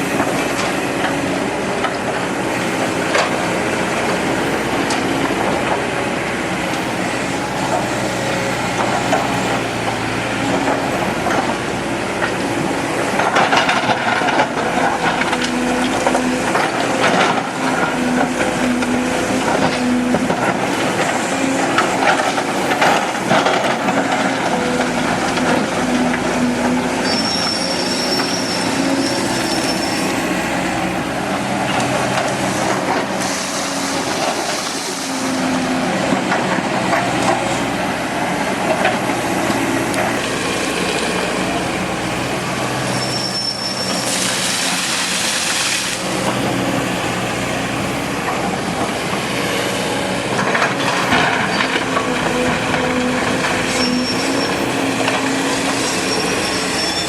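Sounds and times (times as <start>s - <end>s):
excavator diesel engine: 0.0s - 57.0s
soil and rock crunching: 0.0s - 57.0s.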